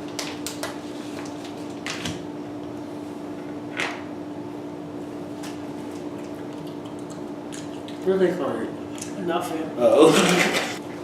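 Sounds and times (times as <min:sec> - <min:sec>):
low appliance hum: 0:00.0 - 0:11.0.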